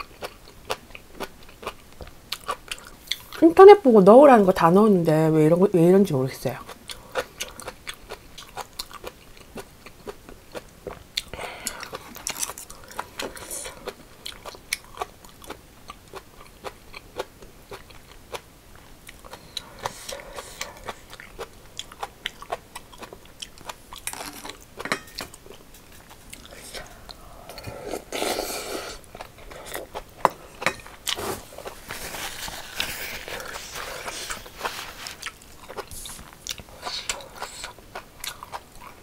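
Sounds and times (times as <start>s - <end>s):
chewing food: 0.0s - 3.4s, 6.6s - 28.0s, 28.9s - 39.0s.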